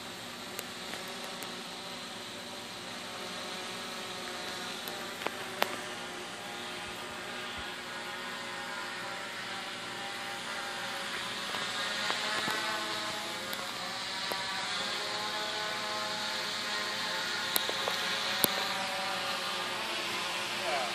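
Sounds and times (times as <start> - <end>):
quadcopter propellers buzzing: 0.0 - 20.9.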